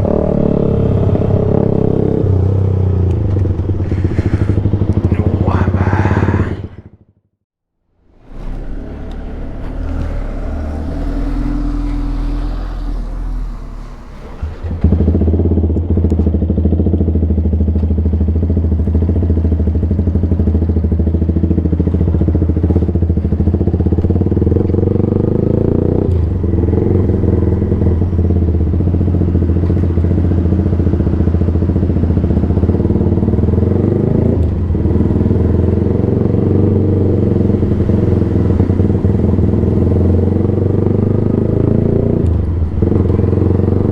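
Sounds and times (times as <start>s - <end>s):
loud motorcycle engine: 0.0s - 7.1s, 8.1s - 43.9s.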